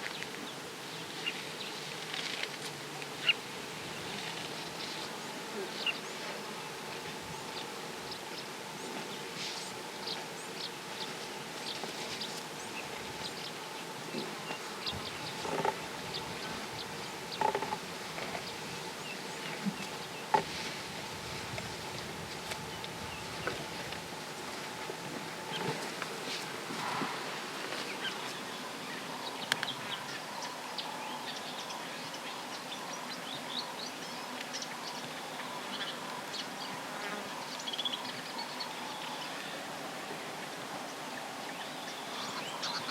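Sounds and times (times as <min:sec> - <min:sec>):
outdoor ambient hiss: 0:00.0 - 0:42.9.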